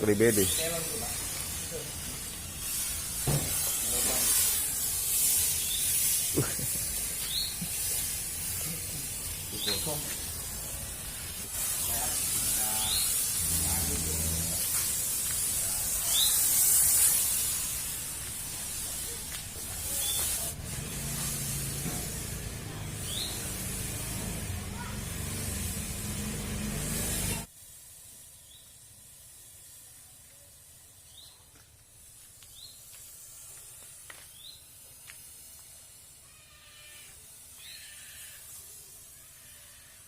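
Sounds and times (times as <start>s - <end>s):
fogging machine hissing: 0.0s - 40.0s.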